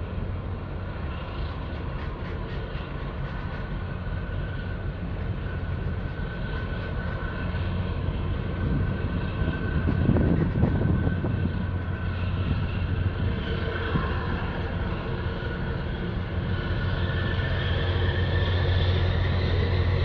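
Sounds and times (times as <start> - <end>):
rushing water wash: 0.0 - 20.0
ship engine drone: 0.0 - 20.0.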